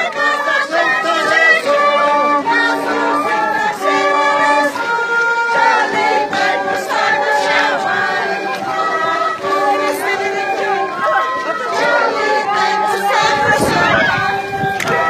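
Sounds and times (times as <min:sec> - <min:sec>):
group of people singing: 0:00.0 - 0:15.0.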